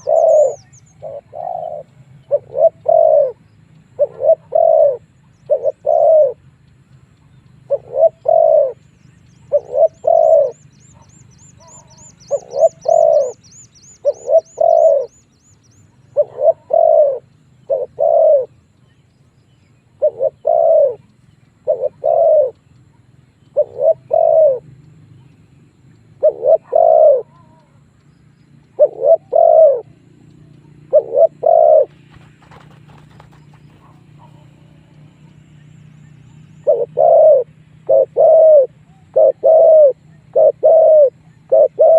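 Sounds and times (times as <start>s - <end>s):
dove cooing: 0.0s - 6.5s, 7.6s - 8.8s, 9.4s - 15.2s, 15.9s - 18.7s, 19.9s - 25.3s, 26.2s - 28.0s, 28.6s - 41.9s.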